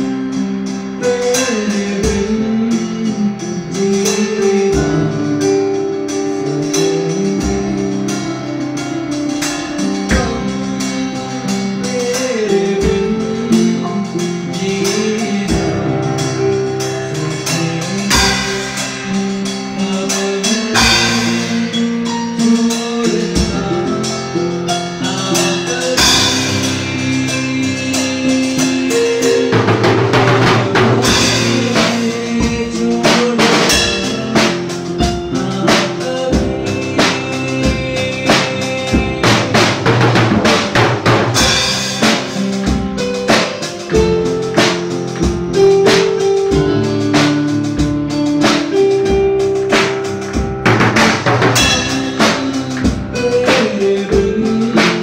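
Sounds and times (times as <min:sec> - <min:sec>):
drum kit beat: 0:00.0 - 0:55.0
electronic keyboard melody: 0:00.0 - 0:55.0.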